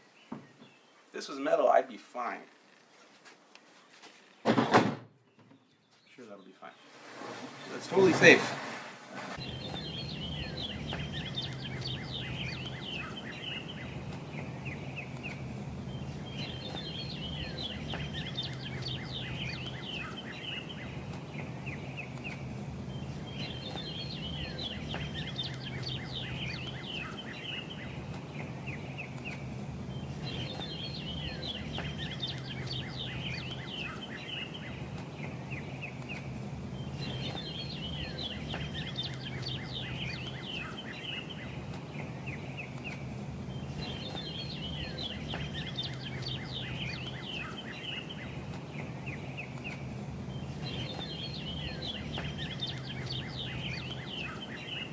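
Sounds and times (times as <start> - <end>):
songbird trilling song: 0.0 - 1.8, 9.3 - 54.9
steady low hum: 9.3 - 54.9.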